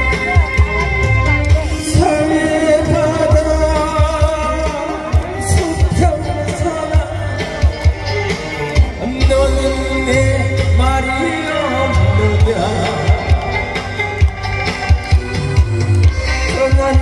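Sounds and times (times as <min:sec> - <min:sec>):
amplified band accompaniment: 0:00.0 - 0:17.0
person singing pop song live: 0:00.0 - 0:17.0
steady drum beat: 0:00.0 - 0:17.0.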